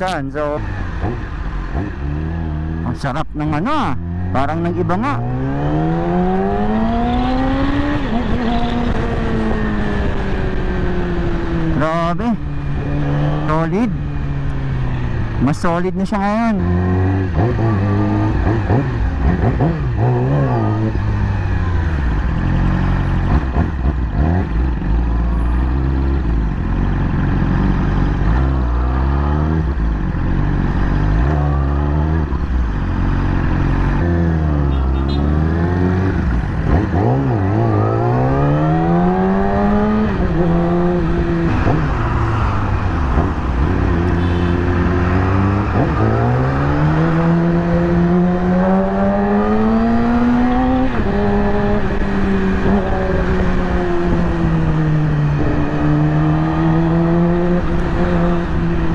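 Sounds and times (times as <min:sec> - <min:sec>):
motorcycle engine revving hard: 0:04.0 - 0:11.8, 0:16.6 - 0:58.9.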